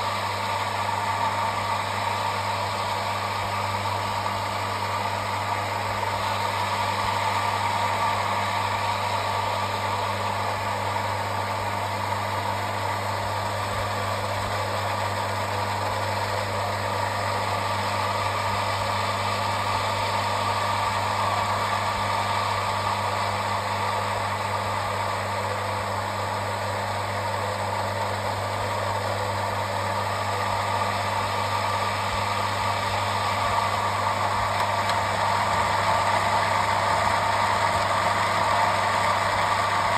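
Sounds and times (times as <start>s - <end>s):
electric pump humming: 0.0s - 39.9s.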